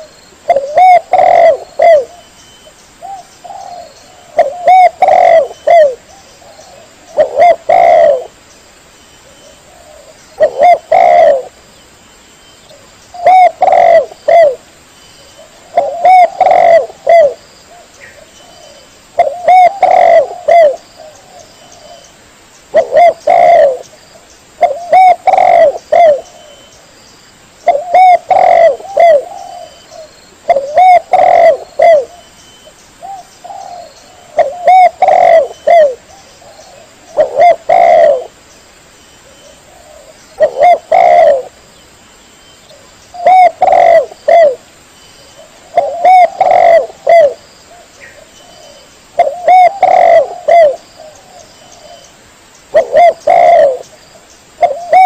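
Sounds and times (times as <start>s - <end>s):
dove cooing: 0.0s - 2.3s, 3.0s - 8.4s, 9.2s - 11.6s, 12.7s - 14.6s, 15.3s - 22.1s, 22.7s - 23.9s, 24.6s - 26.7s, 27.6s - 32.3s, 33.0s - 38.4s, 39.2s - 41.6s, 42.7s - 44.6s, 45.4s - 52.1s, 52.7s - 54.0s, 54.6s - 55.0s.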